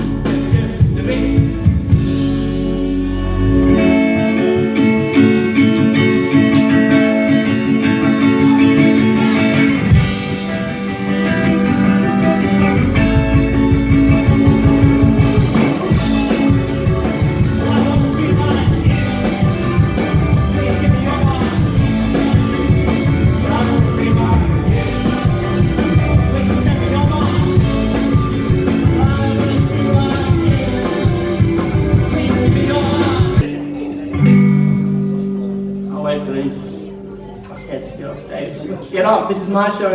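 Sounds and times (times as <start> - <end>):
rock band playing: 0.0 - 38.3.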